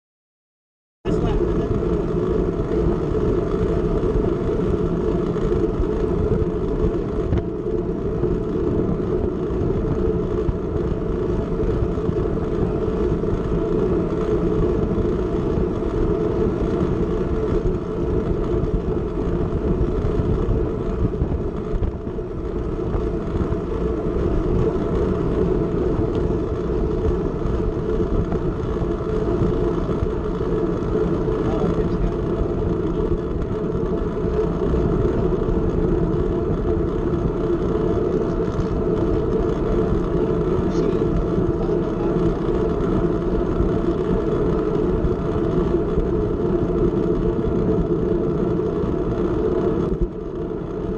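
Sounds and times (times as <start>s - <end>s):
wind rush and tyre noise: 1.1s - 50.9s.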